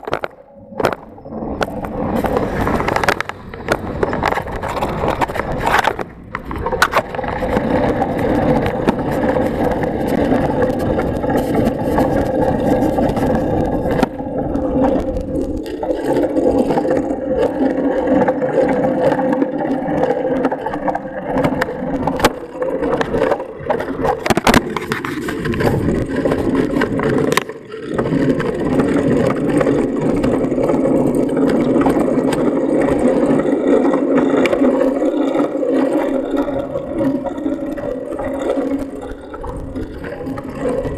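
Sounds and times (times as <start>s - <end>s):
bike clicks and rattles: 0.0s - 18.2s, 19.2s - 35.2s
bicycle rolling along road: 0.0s - 40.9s.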